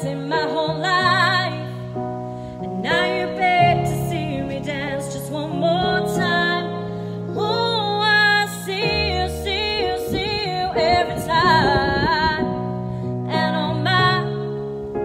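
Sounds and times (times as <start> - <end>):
instrumental backing track: 0.0 - 15.0
woman singing: 0.0 - 15.0.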